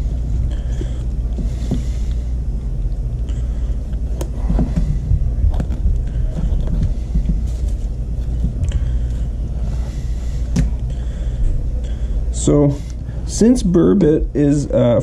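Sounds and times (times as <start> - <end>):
low rumble: 0.0 - 13.2.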